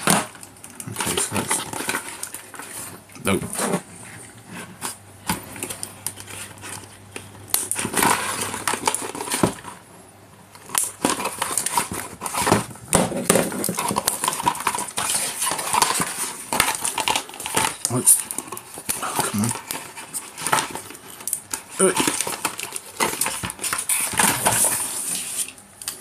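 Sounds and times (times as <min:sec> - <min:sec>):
cardboard and plastic rustling: 0:00.0 - 0:26.0.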